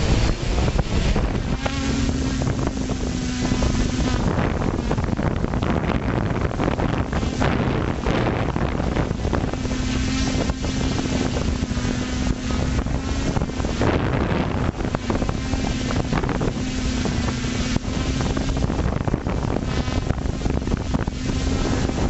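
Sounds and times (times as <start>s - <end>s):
quadcopter motors humming: 0.0s - 22.0s
wind rush on microphone: 0.0s - 22.0s.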